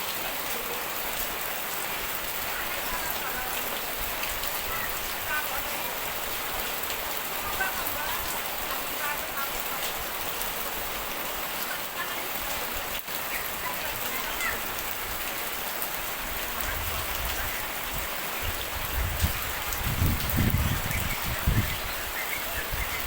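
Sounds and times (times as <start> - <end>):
steady rain pattering: 0.0 - 23.0.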